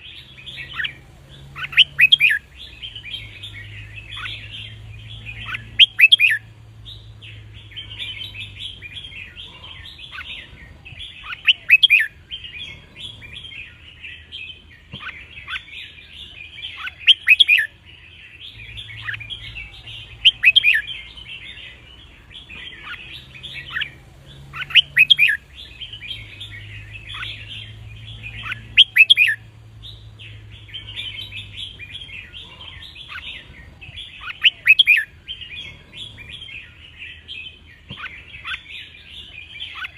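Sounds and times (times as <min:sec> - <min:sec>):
bird chattering: 0:00.0 - 0:39.9
birds singing: 0:00.0 - 0:39.9.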